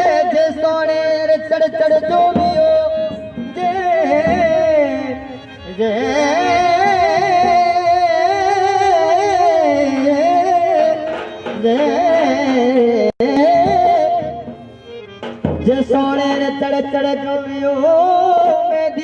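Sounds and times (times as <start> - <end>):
instrumental accompaniment: 0.0 - 19.0
person singing folk song: 0.0 - 19.0.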